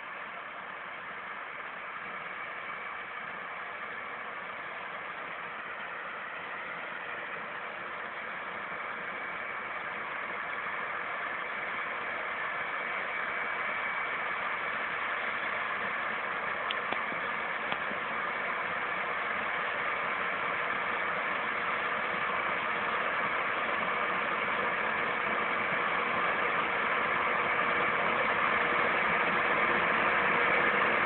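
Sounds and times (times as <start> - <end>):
cotton picker machine drone: 0.0 - 31.0.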